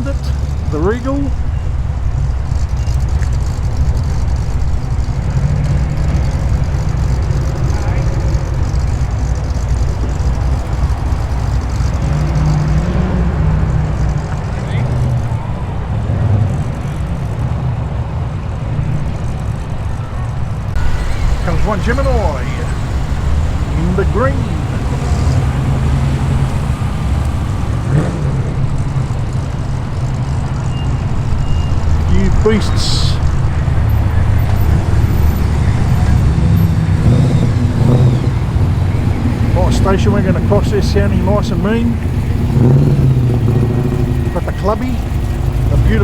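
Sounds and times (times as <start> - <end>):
muscle car engine rumbling: 0.0 - 46.0.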